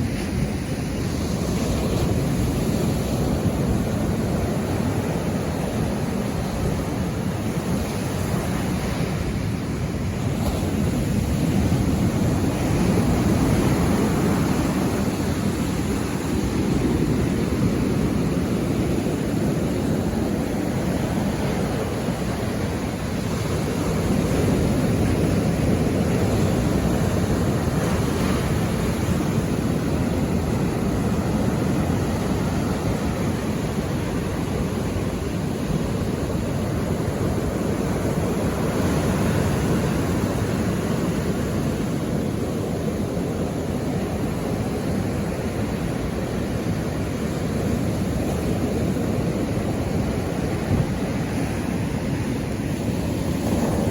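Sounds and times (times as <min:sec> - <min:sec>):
ocean surf washing ashore: 0:00.0 - 0:53.9.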